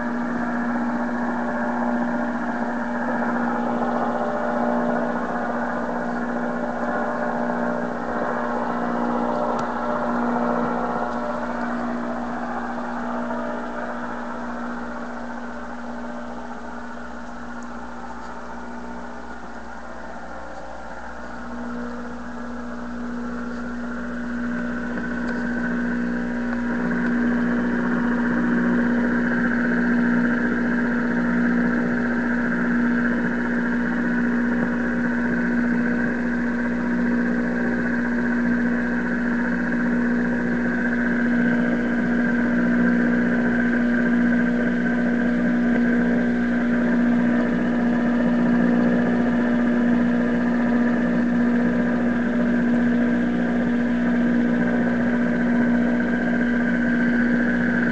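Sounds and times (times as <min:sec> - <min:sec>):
radio droning hum: 0:00.0 - 0:57.9.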